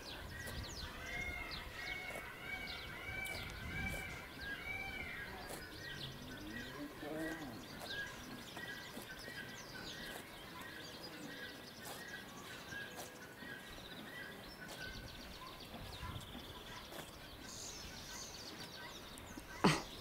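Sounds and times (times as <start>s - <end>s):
outdoor ambience: 0.0s - 20.0s
small bird chirping: 0.0s - 20.0s.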